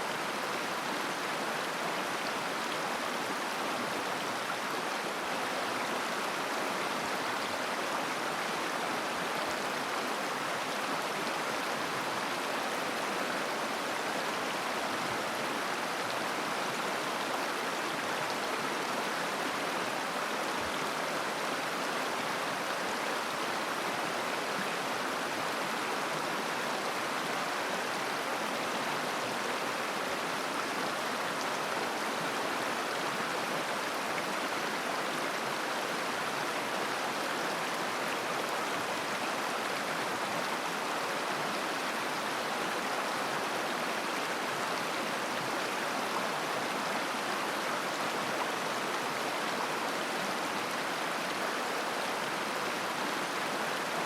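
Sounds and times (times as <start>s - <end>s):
river babbling over stones: 0.1s - 54.0s.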